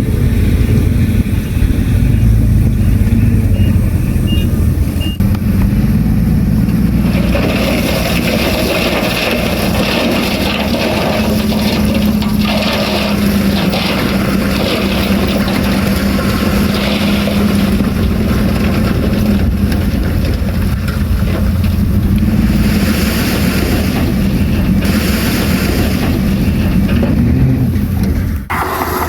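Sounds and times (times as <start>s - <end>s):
diesel engine of heavy machine: 0.0s - 29.0s.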